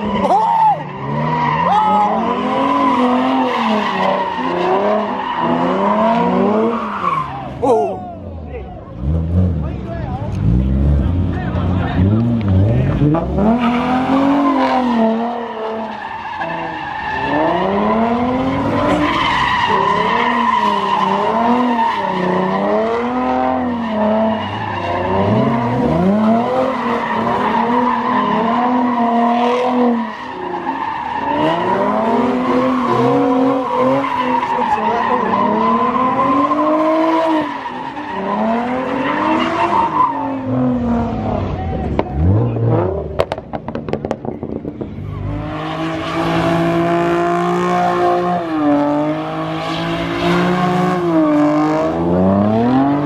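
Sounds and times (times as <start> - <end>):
car engine revving: 0.0 - 53.0
car tyres squealing: 0.0 - 53.0.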